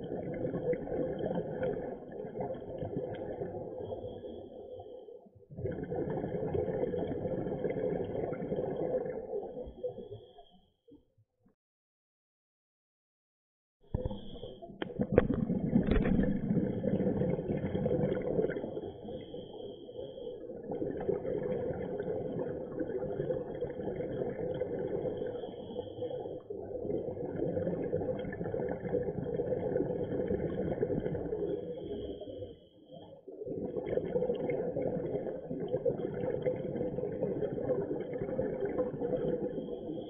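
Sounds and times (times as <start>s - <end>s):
exhaled bubbles: 0.0s - 10.5s, 14.0s - 40.0s.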